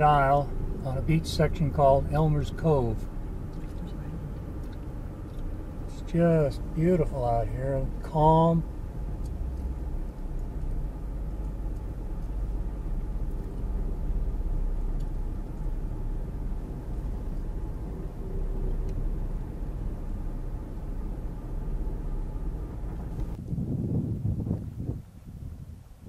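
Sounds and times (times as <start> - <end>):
vehicle rumbling on sand: 0.0 - 26.0.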